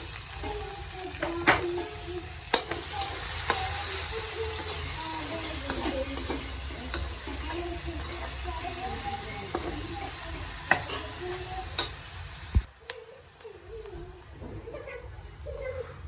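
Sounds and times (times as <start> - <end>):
food sizzling in a frying pan: 0.0 - 15.8.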